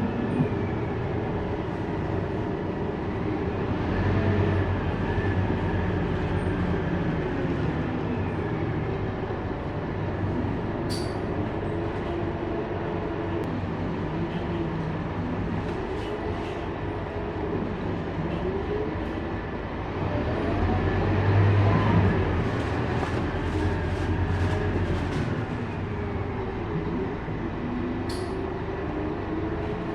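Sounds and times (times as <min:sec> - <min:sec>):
bus engine running: 0:00.0 - 0:29.9.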